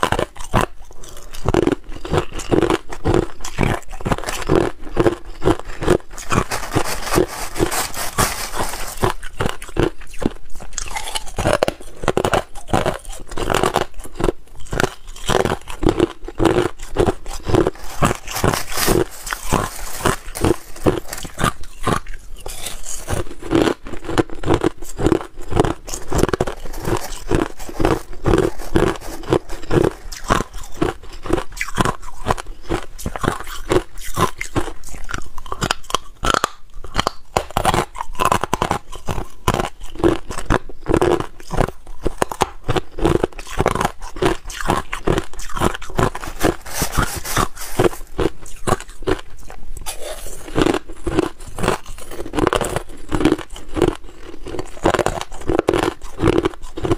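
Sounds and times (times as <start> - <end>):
chewing crushed ice: 0.0 - 56.9.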